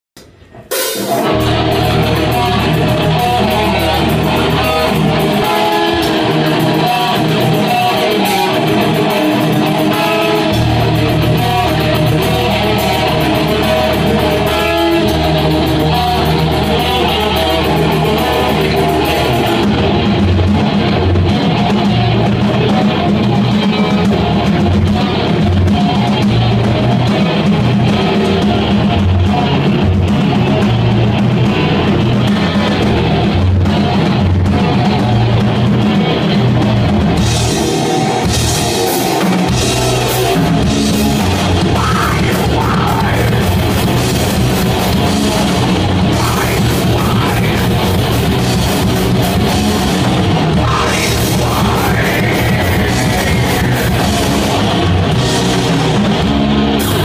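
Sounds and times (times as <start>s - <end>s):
distorted electric guitars: 0.1s - 57.0s
drum kit: 0.1s - 57.0s.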